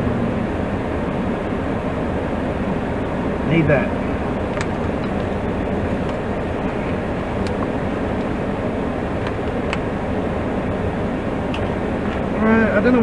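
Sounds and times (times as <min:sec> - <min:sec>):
air conditioning blower rushing: 0:00.0 - 0:13.0.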